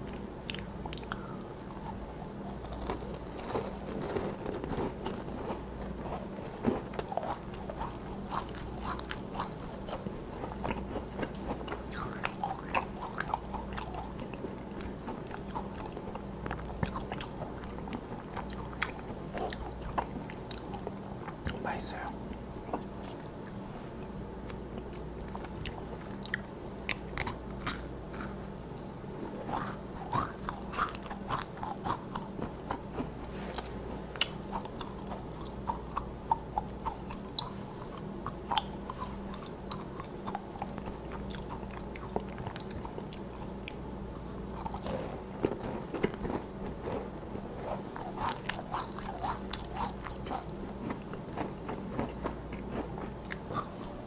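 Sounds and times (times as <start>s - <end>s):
small irregular crackles: 0.0s - 35.9s, 36.6s - 54.0s
soft chewing: 0.0s - 54.0s.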